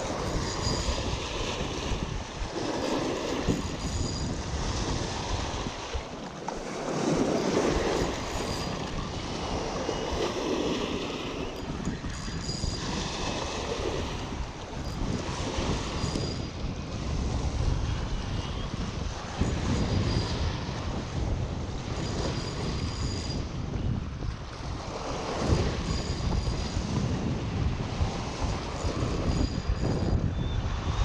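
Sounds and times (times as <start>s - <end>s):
choppy river washing: 0.0s - 31.0s
wind buffeting microphone: 0.0s - 31.0s.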